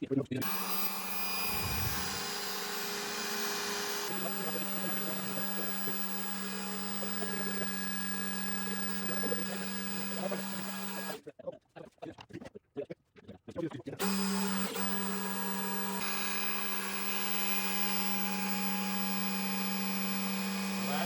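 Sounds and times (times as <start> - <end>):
electric drill whirring: 0.4 - 11.2, 14.0 - 21.0.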